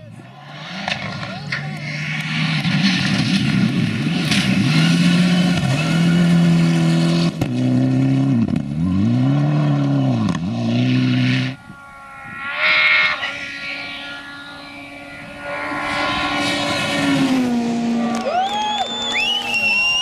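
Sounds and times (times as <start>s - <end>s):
rally car engine at high revs: 0.0s - 11.6s, 12.4s - 20.0s
second rally car approaching: 0.0s - 20.0s.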